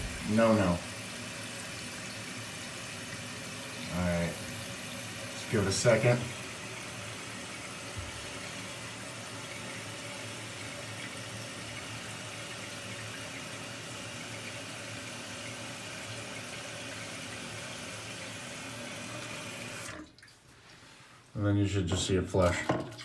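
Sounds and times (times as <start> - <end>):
toilet tank refilling: 0.0 - 20.8, 21.7 - 23.0.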